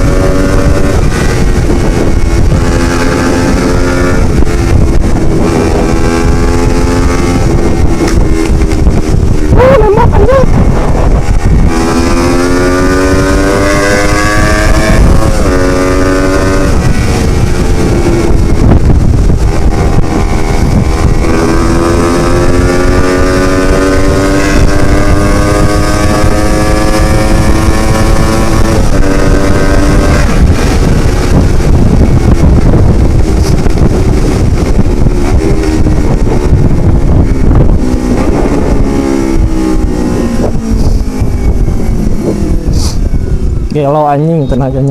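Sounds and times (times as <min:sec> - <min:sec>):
motorcycle engine accelerating: 0:00.0 - 0:44.9
wind buffeting microphone: 0:00.0 - 0:44.9.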